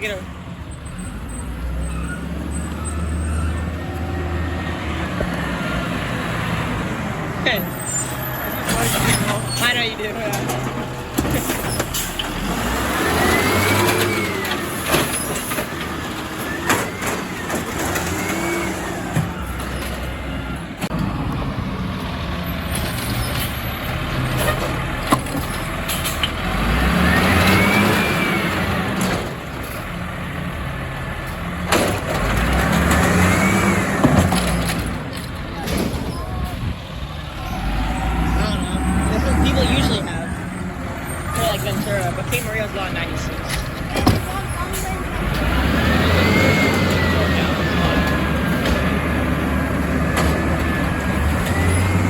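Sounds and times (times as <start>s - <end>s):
truck engine revving: 0.0s - 52.0s.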